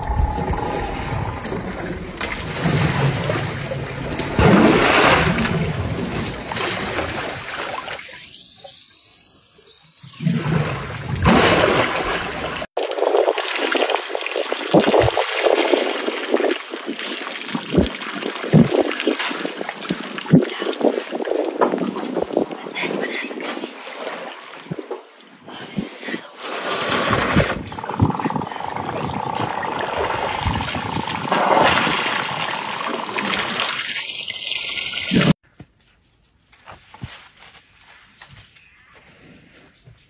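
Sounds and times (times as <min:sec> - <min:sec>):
water splashing and trickling: 0:00.0 - 0:35.4.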